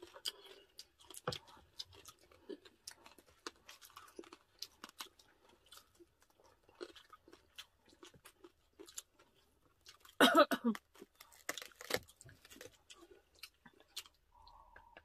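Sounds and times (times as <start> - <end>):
chewing crunches: 0.0 - 15.0.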